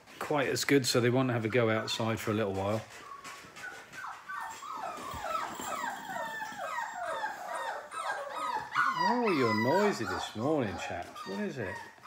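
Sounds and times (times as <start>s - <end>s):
puppies whimpering and yipping: 1.0s - 12.0s.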